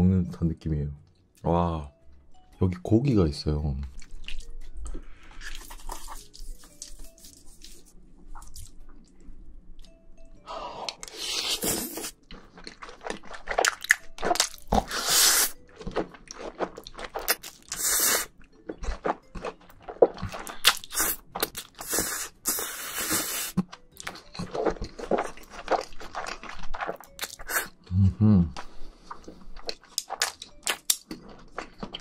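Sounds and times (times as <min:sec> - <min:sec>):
chewing and slurping noodles: 0:04.0 - 0:09.1, 0:10.9 - 0:27.9, 0:28.6 - 0:32.0.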